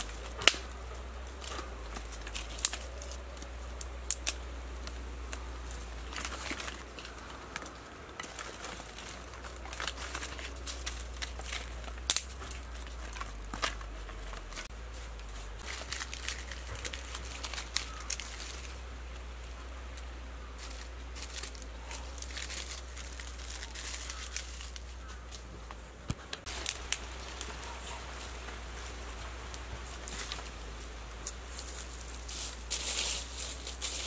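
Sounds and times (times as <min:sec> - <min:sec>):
sticks snapping and knocking: 0:00.0 - 0:19.3, 0:19.9 - 0:28.7.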